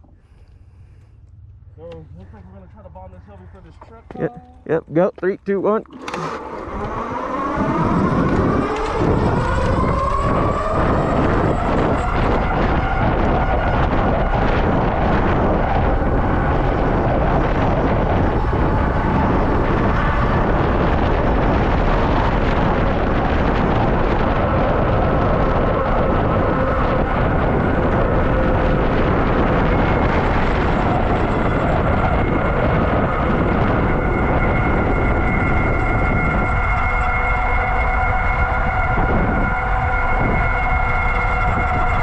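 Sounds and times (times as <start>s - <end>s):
wind rush on microphone: 5.7s - 42.0s.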